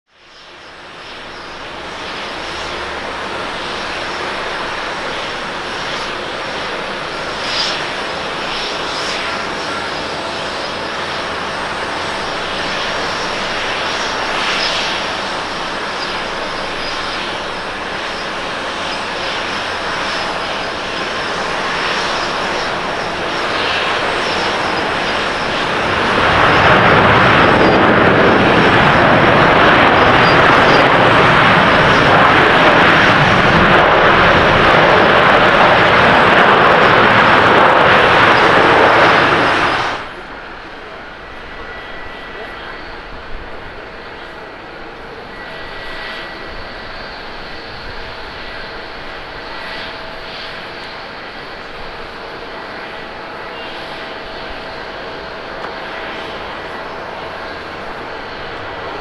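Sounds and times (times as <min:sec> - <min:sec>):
jet engines on approach: 0:00.1 - 0:59.0
jet touching down on wet runway: 0:00.1 - 0:59.0.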